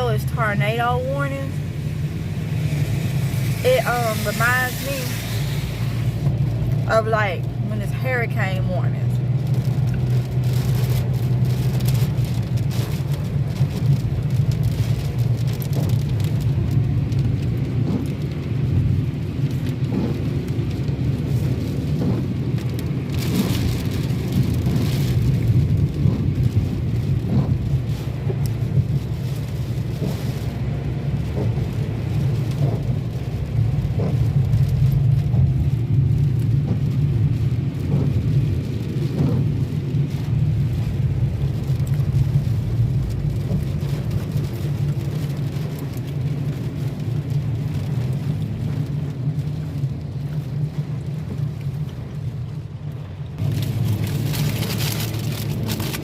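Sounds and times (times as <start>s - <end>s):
heavy rain pouring: 0.0s - 56.0s
low thunder rumble: 0.0s - 56.0s.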